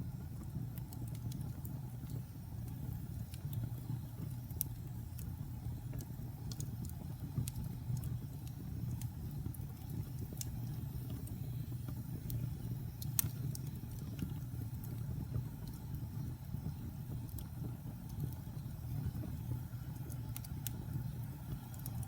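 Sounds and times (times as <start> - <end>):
fire roaring: 0.0 - 22.0
wood crackling and popping: 0.0 - 22.0.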